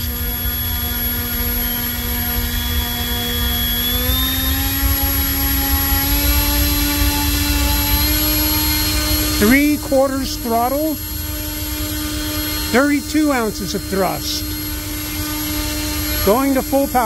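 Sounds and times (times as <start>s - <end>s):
electric motor spinning propeller: 0.0s - 17.0s.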